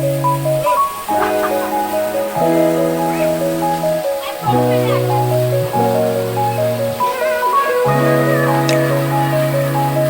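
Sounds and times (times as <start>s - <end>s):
background music with chords: 0.0s - 10.0s.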